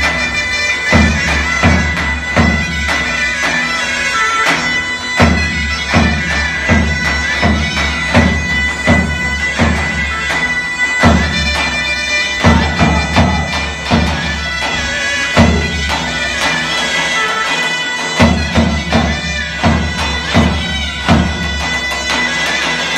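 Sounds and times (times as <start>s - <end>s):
zurna drone: 0.0s - 22.9s
zurna melody: 0.0s - 22.9s.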